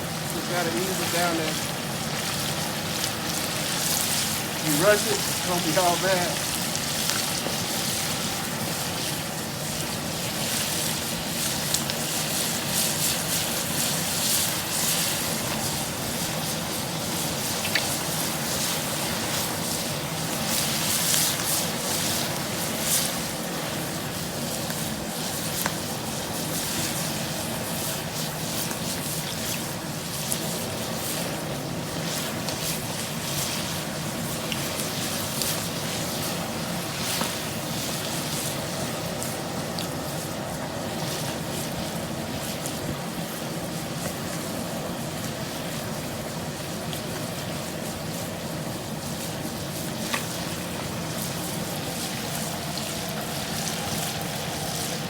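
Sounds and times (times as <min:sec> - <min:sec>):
frying oil sizzling and popping: 0:00.0 - 0:55.0.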